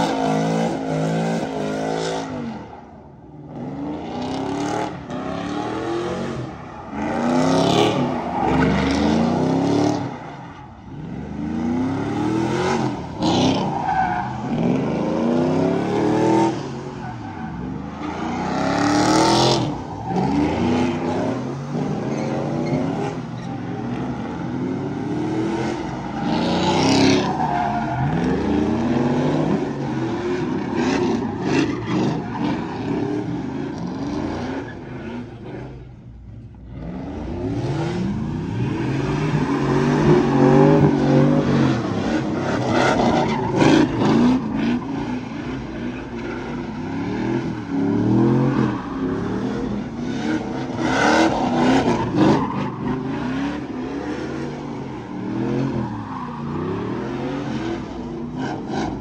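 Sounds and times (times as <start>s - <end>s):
tires screeching on asphalt: 0.0s - 59.0s
truck engines revving: 0.0s - 59.0s.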